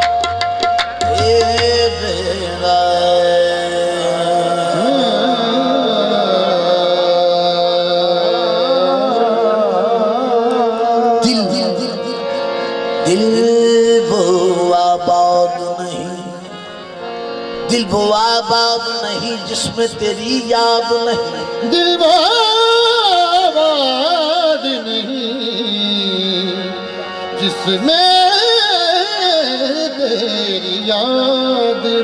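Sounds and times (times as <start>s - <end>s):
harmonium drone: 0.0s - 32.0s
person singing wordless melody: 0.9s - 32.0s.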